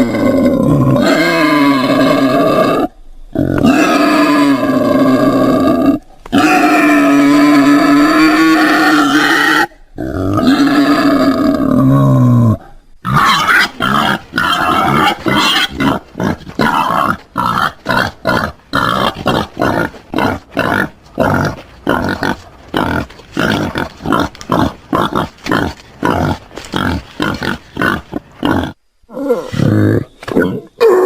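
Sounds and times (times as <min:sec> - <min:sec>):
wild boar grunting: 0:00.0 - 0:31.0.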